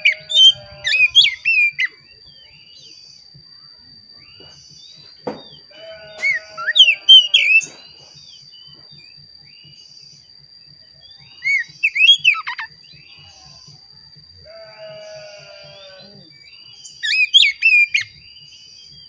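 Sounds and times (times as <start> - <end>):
bird singing whistled notes: 0.0 - 19.0.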